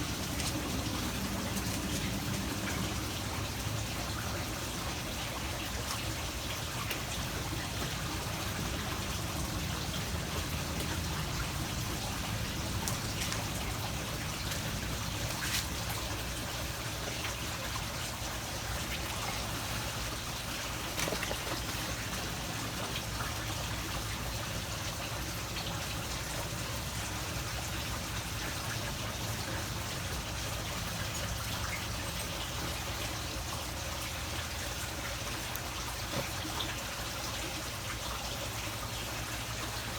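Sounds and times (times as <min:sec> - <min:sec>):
faint ticks and drips: 0:00.0 - 0:39.9
water trickling: 0:00.0 - 0:39.9.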